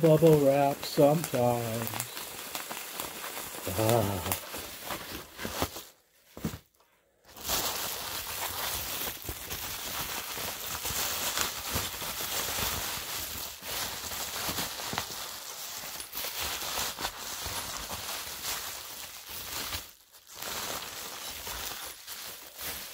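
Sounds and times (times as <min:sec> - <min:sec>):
bubble wrap crinkling: 0:00.0 - 0:22.9.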